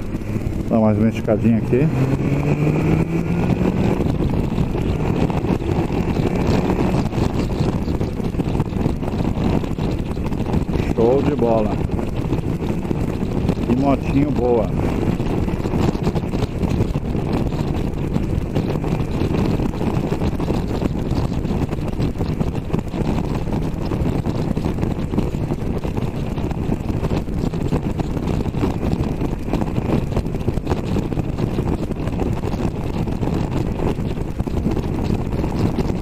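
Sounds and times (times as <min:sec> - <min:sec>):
motorcycle engine running: 0:00.0 - 0:36.0
wind rushing on microphone: 0:00.0 - 0:36.0.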